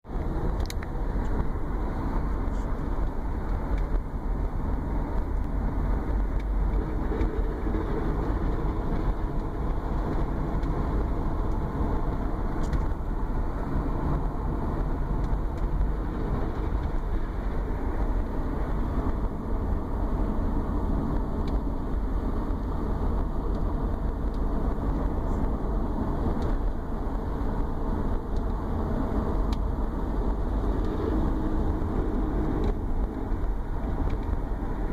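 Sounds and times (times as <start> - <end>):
road noise: 0.0 - 34.9
car engine running: 0.1 - 34.9
low drone: 0.1 - 34.9.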